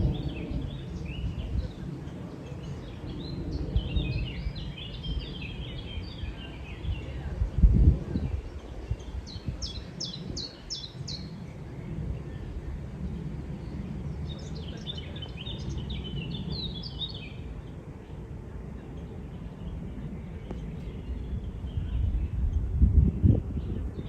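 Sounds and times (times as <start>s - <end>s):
low outdoor rumble: 0.0s - 24.0s
songbirds singing: 0.0s - 24.0s.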